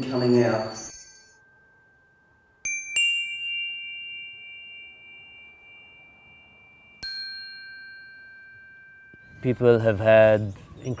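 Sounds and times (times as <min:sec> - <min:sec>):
small metal chimes ringing: 0:00.0 - 0:11.0.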